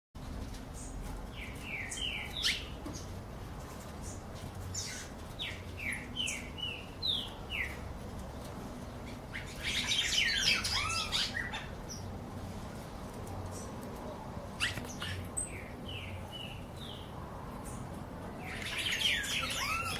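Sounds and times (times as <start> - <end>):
songbirds singing: 0.7 - 12.2, 13.2 - 19.9.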